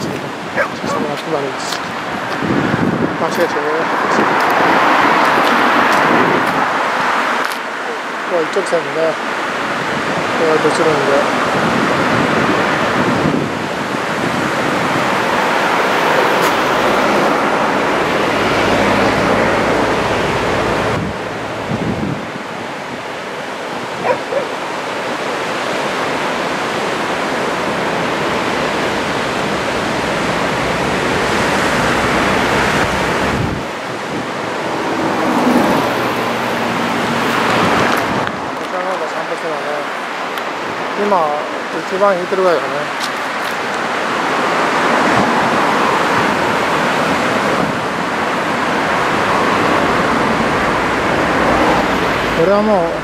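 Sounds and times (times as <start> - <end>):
surf washing onto beach: 0.0 - 53.0
wind rumbling on microphone: 0.0 - 53.0.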